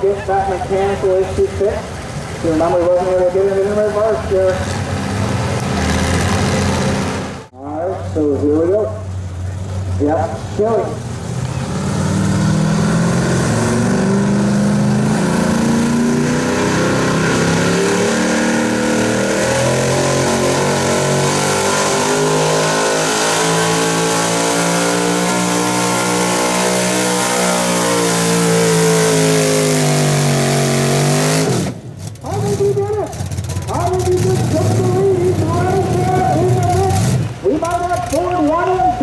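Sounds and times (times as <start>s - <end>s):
truck engine at full throttle: 0.0s - 7.5s, 8.2s - 39.0s.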